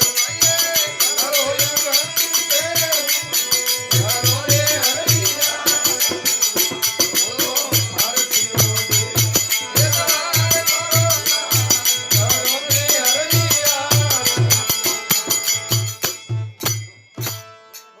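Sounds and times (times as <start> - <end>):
steady drum beat: 0.0 - 17.6
jingling percussion: 0.0 - 18.0.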